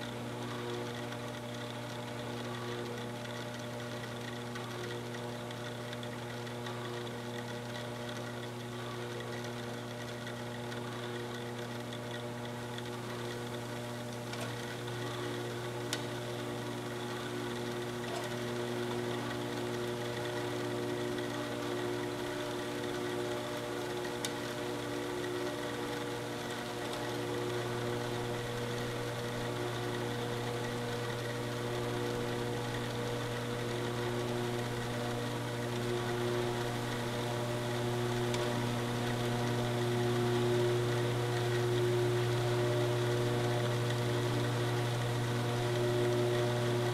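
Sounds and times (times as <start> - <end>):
saw motor humming: 0.0 - 46.9.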